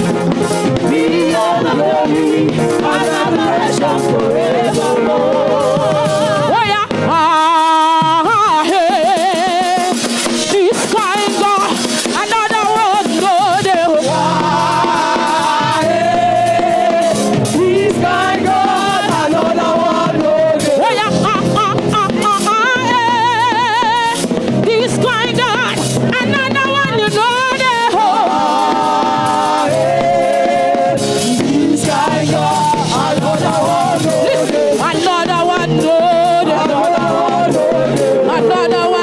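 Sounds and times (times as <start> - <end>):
gospel band accompaniment: 0.0 - 39.0
person singing with vibrato: 0.0 - 39.0.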